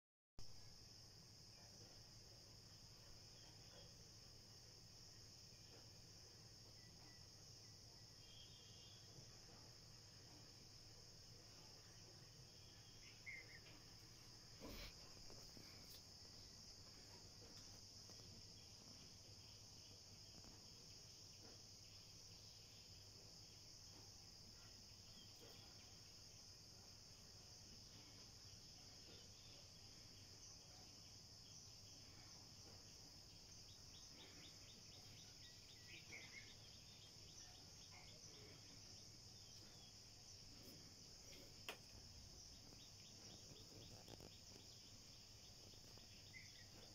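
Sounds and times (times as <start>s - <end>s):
insects droning: 0.5s - 46.9s.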